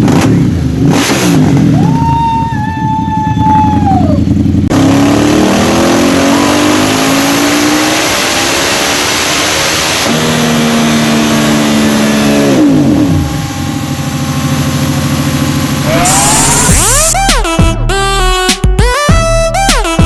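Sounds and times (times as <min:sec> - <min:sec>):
motorcycle engine revving: 0:00.0 - 0:17.2.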